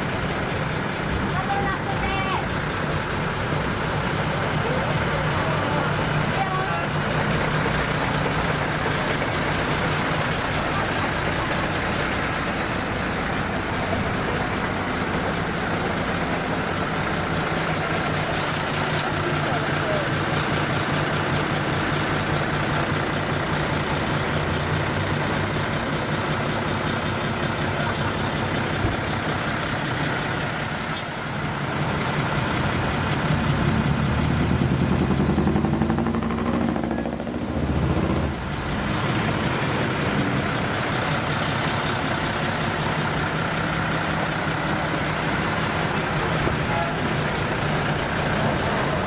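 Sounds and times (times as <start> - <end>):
truck diesel engine idling: 0.0 - 49.0.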